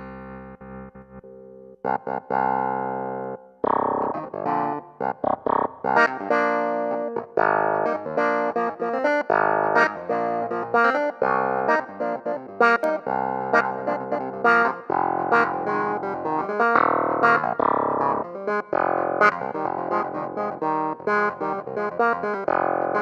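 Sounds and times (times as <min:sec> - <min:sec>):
piano chords: 0:02.4 - 0:23.0.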